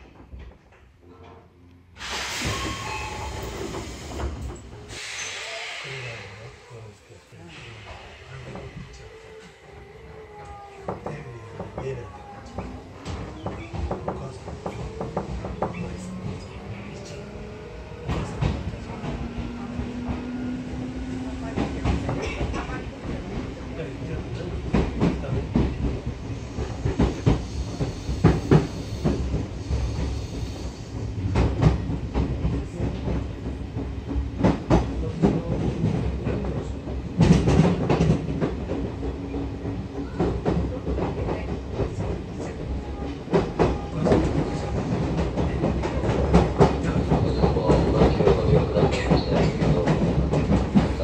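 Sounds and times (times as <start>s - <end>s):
electric train rumble: 1.6s - 51.0s.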